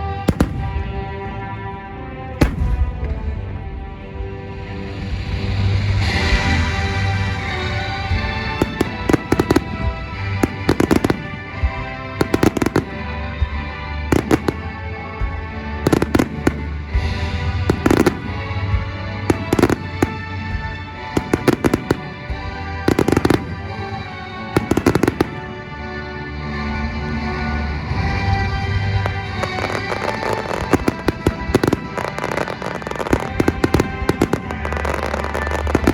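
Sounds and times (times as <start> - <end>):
fireworks bursting and crackling: 0.0 - 1.5, 2.4 - 3.6, 5.0 - 26.2, 28.3 - 35.9
music playing: 0.0 - 35.9.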